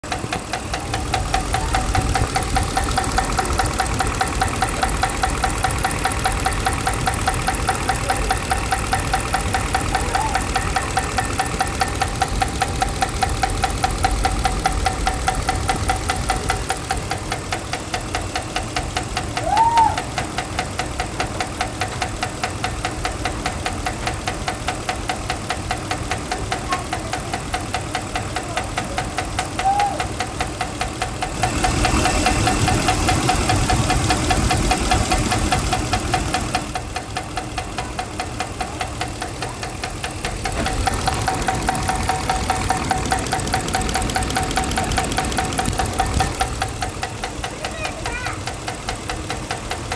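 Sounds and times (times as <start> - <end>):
engine running with ticking knock: 0.0 - 49.9.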